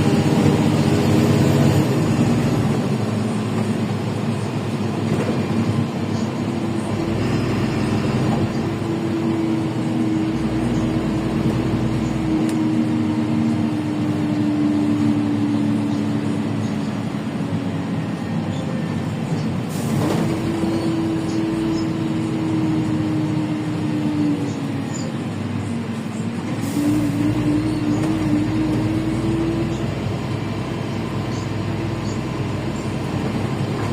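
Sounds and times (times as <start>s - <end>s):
bus engine droning with whine: 0.0s - 33.9s.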